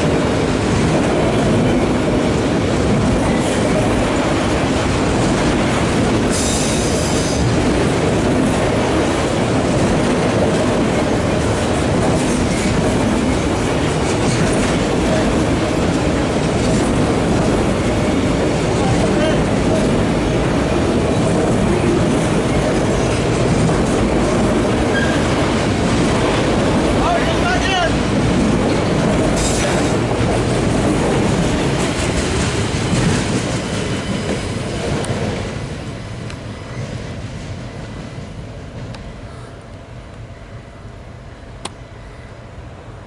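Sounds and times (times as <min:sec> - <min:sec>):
steel train wheels rumbling on rails: 0:00.0 - 0:43.0.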